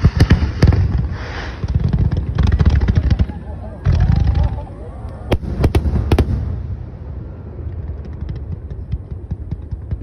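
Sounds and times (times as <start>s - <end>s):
fireworks bangs: 0.0s - 10.0s
fireworks crackles: 0.0s - 10.0s.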